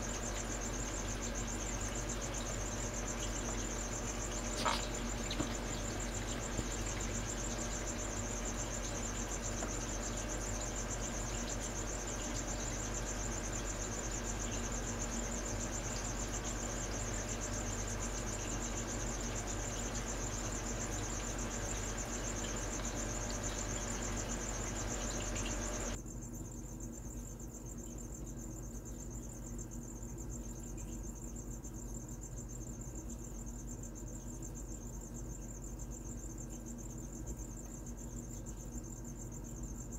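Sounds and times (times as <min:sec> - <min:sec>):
cricket chirping: 0:00.0 - 0:39.9
low hum and hiss: 0:00.0 - 0:39.9.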